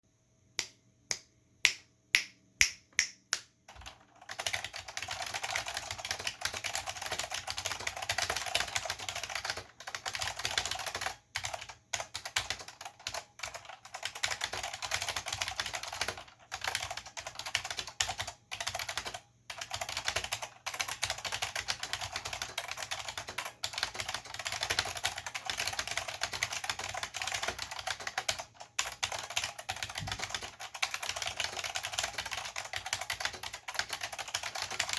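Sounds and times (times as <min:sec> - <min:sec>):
typing on a mechanical keyboard: 0:03.7 - 0:34.9.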